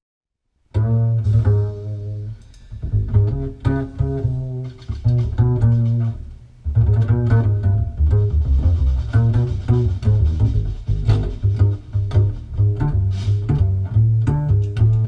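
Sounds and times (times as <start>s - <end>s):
plucked bass line: 0.7s - 15.0s
plucked string notes: 0.7s - 15.0s.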